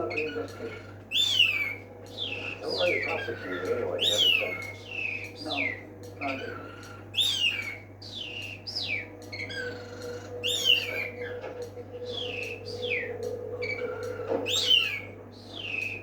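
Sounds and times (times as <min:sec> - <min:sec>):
bird whistling calls: 0:00.0 - 0:16.0.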